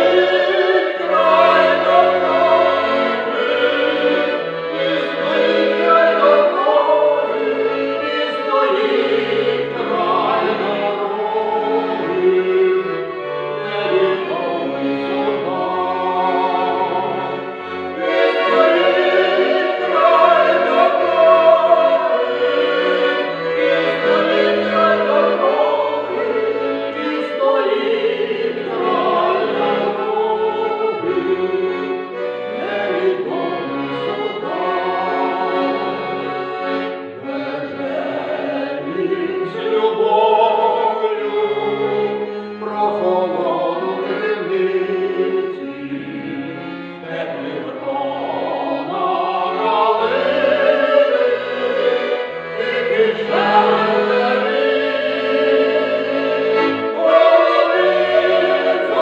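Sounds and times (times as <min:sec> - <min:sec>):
accordion: 0:00.0 - 0:59.0
choir singing: 0:00.0 - 0:59.0.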